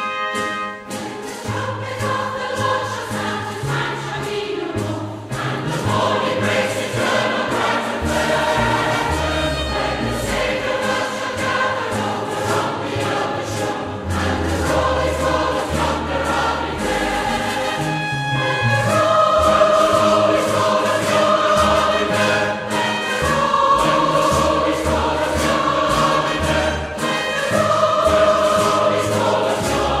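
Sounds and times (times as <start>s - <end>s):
choir singing a hymn: 0.0s - 30.0s.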